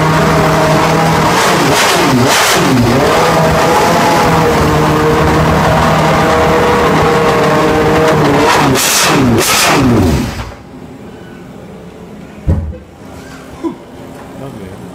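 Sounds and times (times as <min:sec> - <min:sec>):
racing engine idling and revving: 0:00.0 - 0:12.2.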